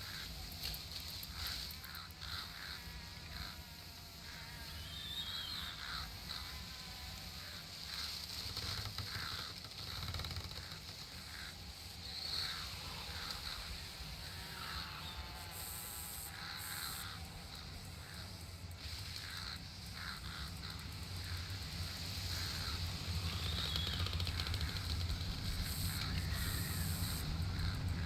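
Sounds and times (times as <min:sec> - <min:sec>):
birds chirping: 0:00.0 - 0:28.0
insects buzzing: 0:00.0 - 0:28.0.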